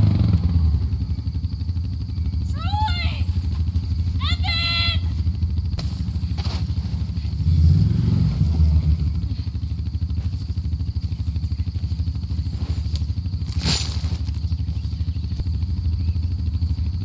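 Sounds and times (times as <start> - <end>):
engine running with throbbing rumble: 0.0 - 17.0.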